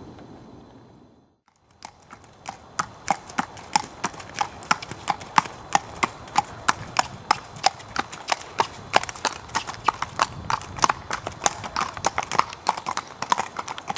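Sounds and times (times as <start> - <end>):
horse hooves on wet pavement: 1.5 - 13.9.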